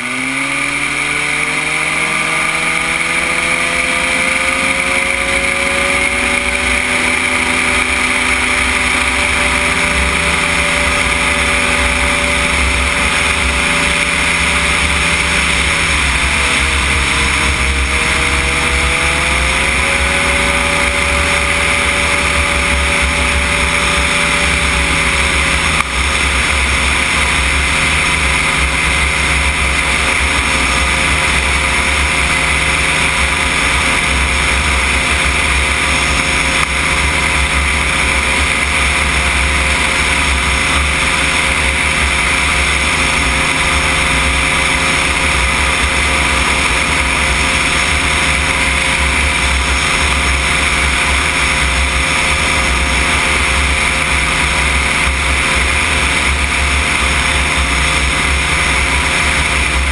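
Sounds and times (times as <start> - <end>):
microlight engine and propeller: 0.0 - 59.9.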